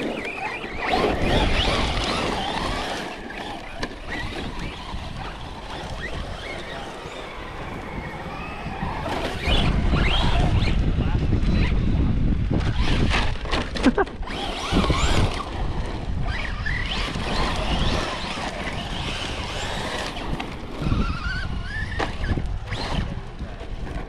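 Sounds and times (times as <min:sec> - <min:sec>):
rc truck motor whining: 0:00.0 - 0:24.0
wind on microphone: 0:00.0 - 0:24.0.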